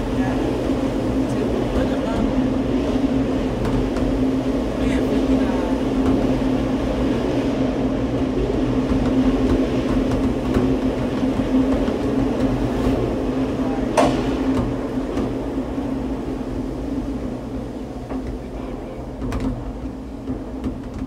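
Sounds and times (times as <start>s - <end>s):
tram capsule mechanical rumble: 0.0s - 21.0s.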